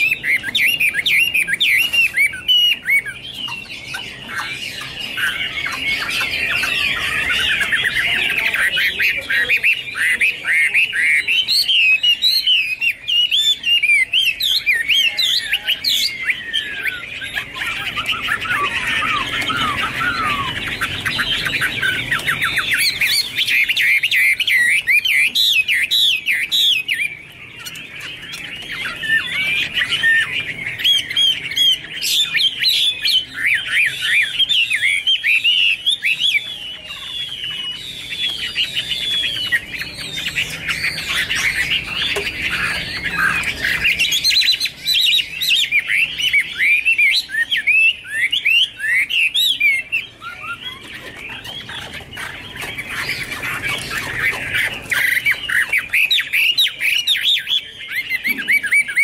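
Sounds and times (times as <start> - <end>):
bird singing fast song: 0.0 - 59.0.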